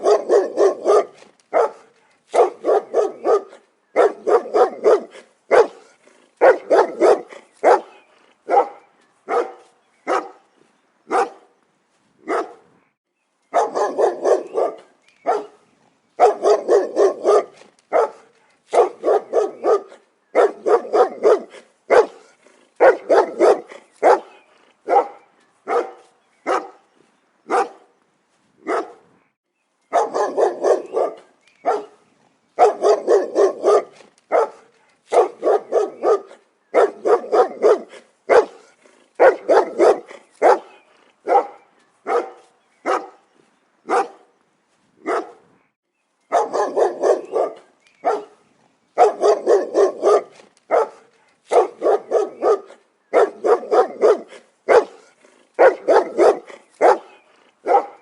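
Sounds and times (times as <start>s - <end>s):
dog barking: 0.0s - 10.4s, 11.1s - 11.5s, 12.2s - 12.7s, 13.5s - 15.6s, 16.2s - 26.8s, 27.5s - 27.9s, 28.6s - 29.0s, 29.9s - 32.0s, 32.6s - 43.2s, 43.9s - 44.3s, 45.0s - 45.4s, 46.3s - 48.4s, 49.0s - 58.0s.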